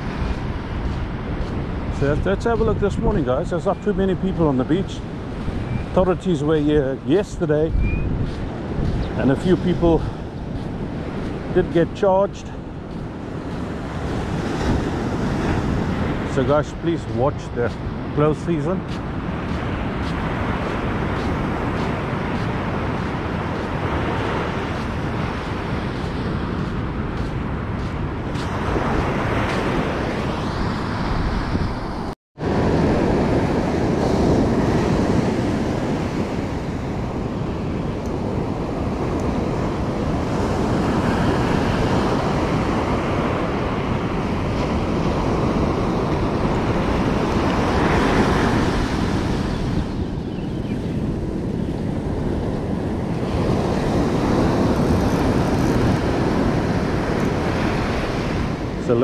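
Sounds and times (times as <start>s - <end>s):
surf breaking on sandy beach: 0.0s - 50.2s, 51.1s - 59.0s
wind buffeting microphone: 0.0s - 59.0s.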